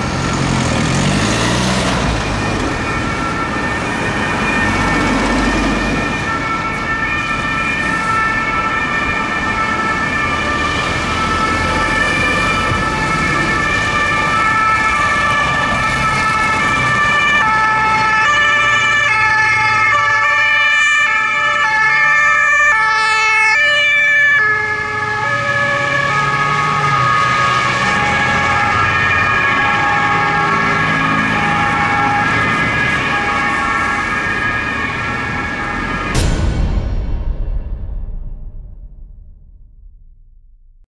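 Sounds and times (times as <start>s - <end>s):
police sirens stepping tones: 0.0s - 36.1s
cars passing on road: 0.0s - 36.2s.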